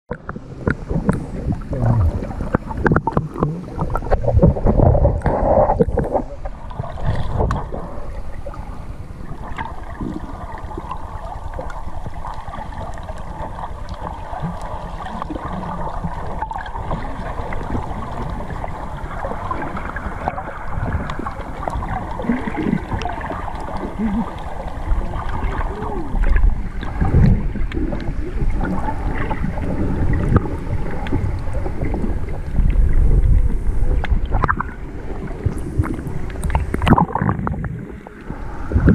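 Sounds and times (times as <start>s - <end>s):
rushing water: 0.1s - 38.9s.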